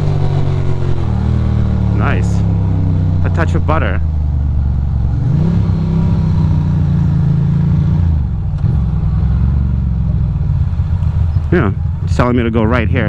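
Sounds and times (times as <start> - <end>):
motorcycle engine under throttle: 0.0 - 12.8.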